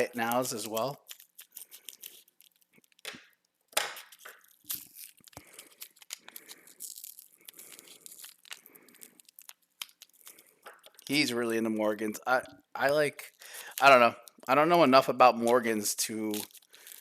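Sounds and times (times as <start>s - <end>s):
packaging torn and crinkled: 0.0s - 11.6s, 13.2s - 14.7s, 15.3s - 17.0s.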